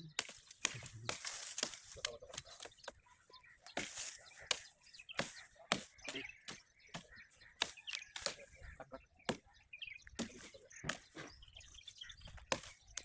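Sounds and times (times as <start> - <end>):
blade chopping wood: 0.1 - 3.0, 3.7 - 8.5, 9.2 - 11.3, 12.3 - 13.0.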